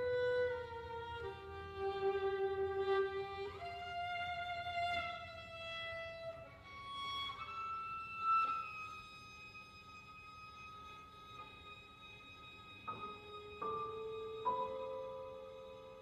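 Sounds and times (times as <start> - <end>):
violin playing slow bowed notes: 0.0 - 16.0.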